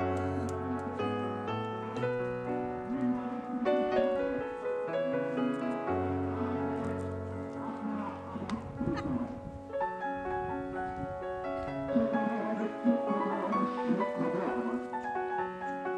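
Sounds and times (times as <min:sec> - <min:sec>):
keyboard music with chords: 0:00.0 - 0:15.9.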